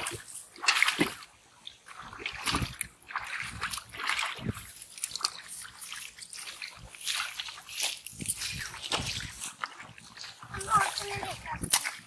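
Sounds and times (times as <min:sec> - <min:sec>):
water splashing in a pond: 0:00.0 - 0:12.0.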